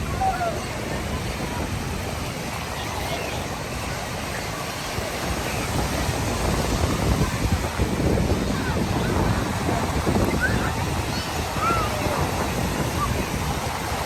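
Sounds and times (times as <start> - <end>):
faint distant voices: 0.0 - 14.0
ocean surf: 0.0 - 14.0
wind on microphone: 0.0 - 14.0.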